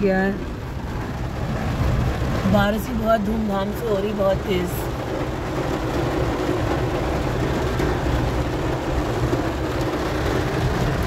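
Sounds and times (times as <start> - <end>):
car rumble: 0.0 - 11.0
heavy rain on car roof: 0.0 - 11.0.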